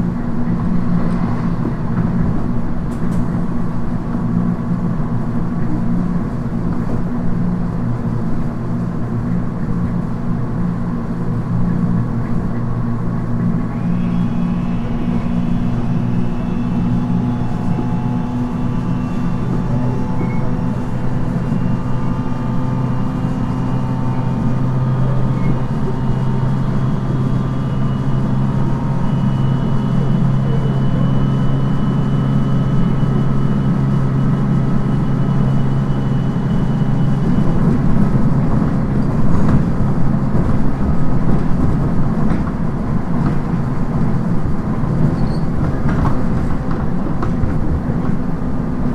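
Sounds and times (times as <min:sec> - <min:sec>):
train motor and gear hum: 0:00.0 - 0:48.9
wheels rumbling on rail: 0:00.0 - 0:48.9.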